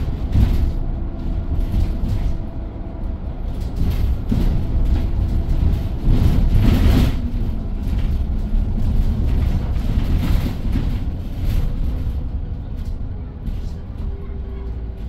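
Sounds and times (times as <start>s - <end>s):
bus interior road rumble: 0.0s - 15.0s.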